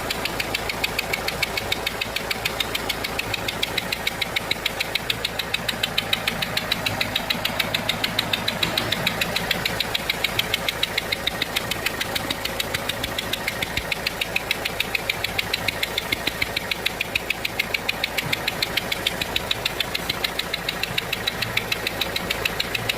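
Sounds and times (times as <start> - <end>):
diesel engine idling with ticking: 0.0 - 22.9.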